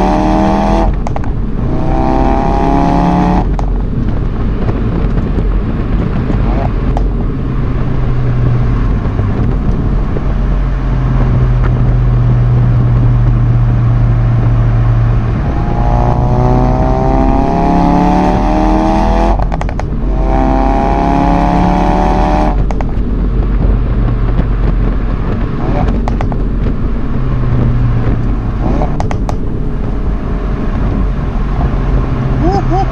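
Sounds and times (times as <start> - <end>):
exhaust cracks: 0.0 - 17.6, 19.0 - 32.9
car engine accelerating: 0.0 - 32.9.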